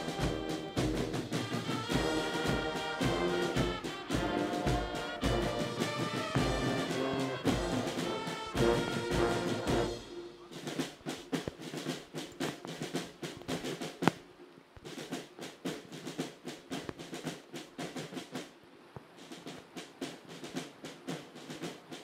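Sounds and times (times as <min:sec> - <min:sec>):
snare drums marching beat: 0:00.0 - 0:14.2, 0:14.8 - 0:18.6, 0:19.2 - 0:22.0.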